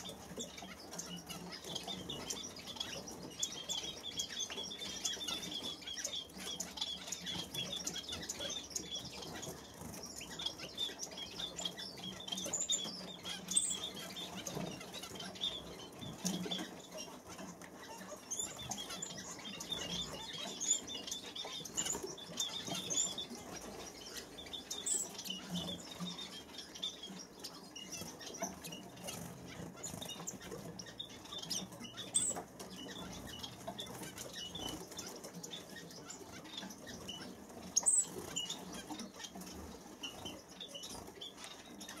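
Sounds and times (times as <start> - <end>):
birds fluttering in a cage: 0.0 - 42.0.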